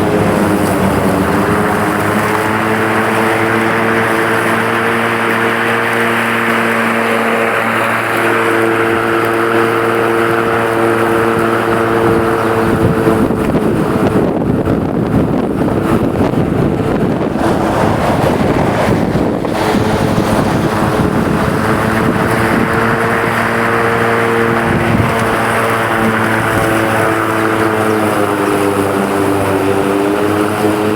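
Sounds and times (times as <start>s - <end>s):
loud rushing noise: 0.0s - 30.4s
electric lawn mower humming: 0.0s - 30.9s.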